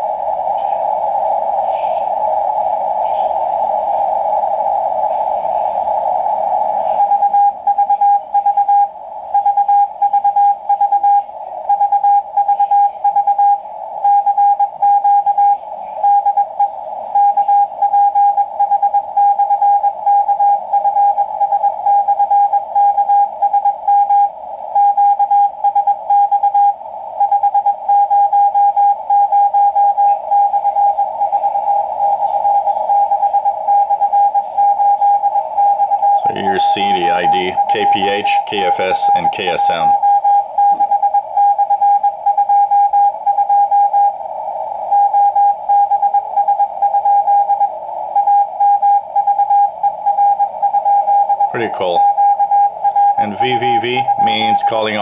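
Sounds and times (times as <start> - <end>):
morse code tone: 0.0 - 55.0
radio static hiss: 0.0 - 55.0.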